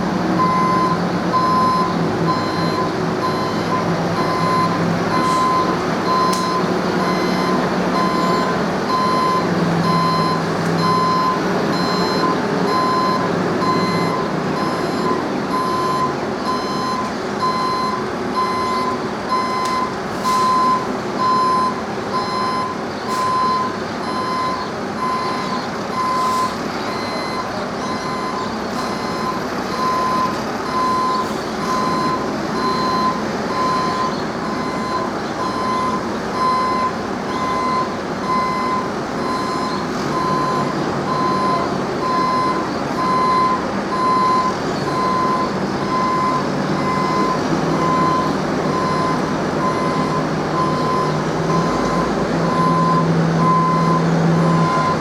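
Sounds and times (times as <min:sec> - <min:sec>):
low engine hum: 0:00.0 - 0:55.0
reversing alarm beeping: 0:00.0 - 0:55.0.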